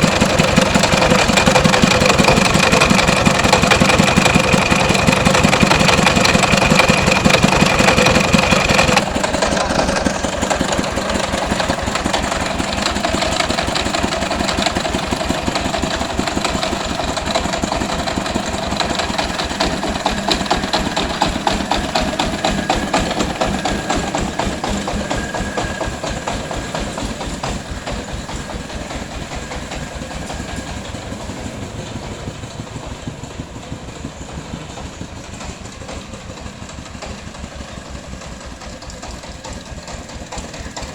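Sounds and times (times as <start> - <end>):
engine running with rapid beat: 0.0 - 40.9.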